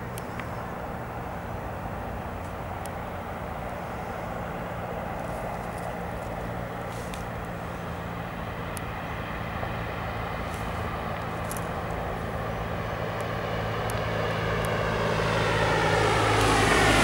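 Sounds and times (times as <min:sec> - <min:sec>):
light aircraft engine drone: 0:00.0 - 0:17.0.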